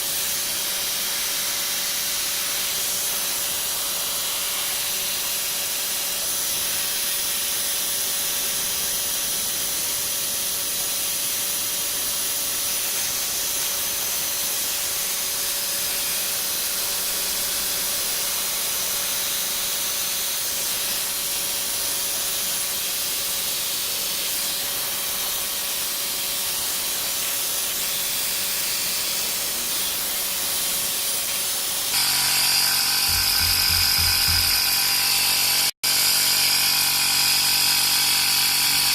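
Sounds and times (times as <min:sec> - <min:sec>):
hiss of air: 0:00.0 - 0:35.7
air compressor motor whine: 0:00.0 - 0:38.9.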